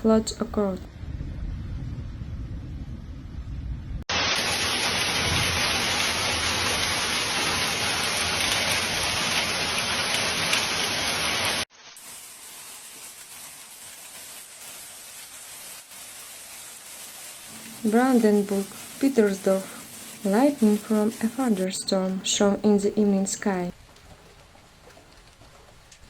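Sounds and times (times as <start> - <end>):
heavy rain pouring: 4.1 - 26.0.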